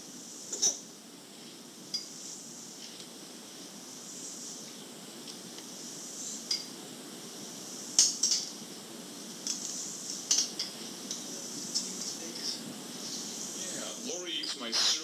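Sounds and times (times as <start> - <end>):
cassette tape hiss: 0.0 - 15.0.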